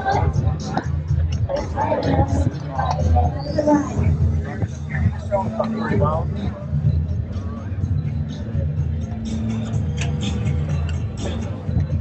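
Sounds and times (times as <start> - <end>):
music with heavy bass: 0.0 - 12.0.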